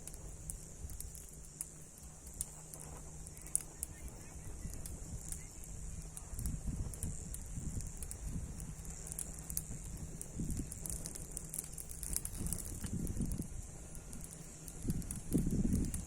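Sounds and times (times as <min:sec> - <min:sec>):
sharp pops and snaps: 0:00.0 - 0:16.0
steady high hiss: 0:00.0 - 0:16.0
wood fire crackling: 0:00.0 - 0:16.0.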